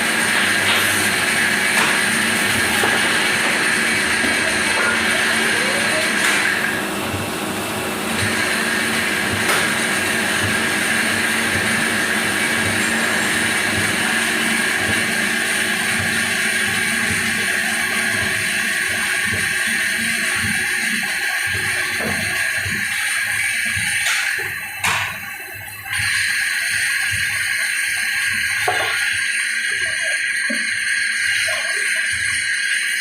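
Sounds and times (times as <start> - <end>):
machine humming and whining: 0.0 - 33.0.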